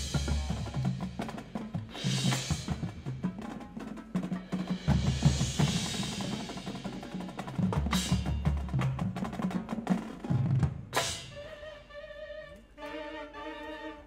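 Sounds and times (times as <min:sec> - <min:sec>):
snare and bass drums: 0:00.0 - 0:11.4.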